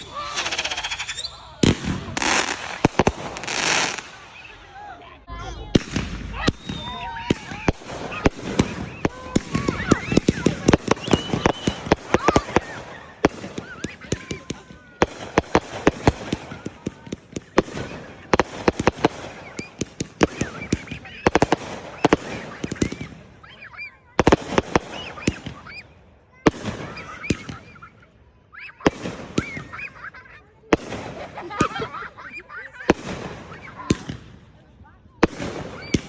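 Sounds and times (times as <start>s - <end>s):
fireworks cracking and popping: 0.0s - 4.7s, 5.6s - 23.6s, 24.2s - 25.8s, 26.4s - 28.0s, 28.8s - 30.0s, 30.7s - 32.0s, 32.7s - 34.6s, 35.2s - 36.0s.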